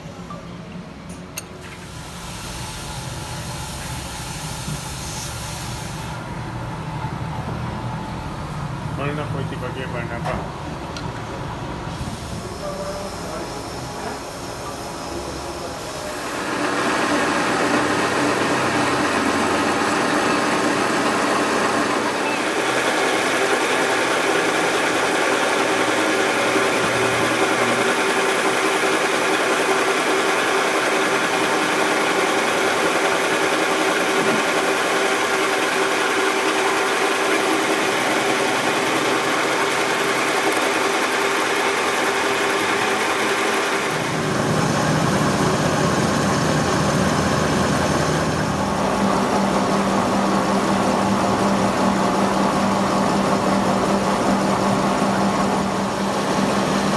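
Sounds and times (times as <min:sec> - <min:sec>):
machine humming: 0:06.2 - 0:56.9.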